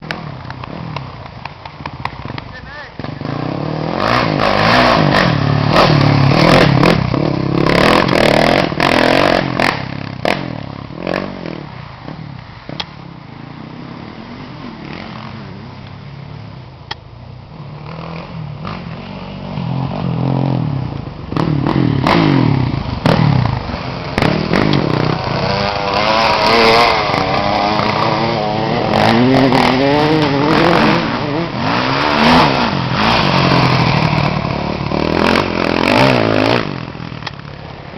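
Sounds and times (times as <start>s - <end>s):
motocross bikes revving past: 0.0s - 16.7s, 17.4s - 37.9s.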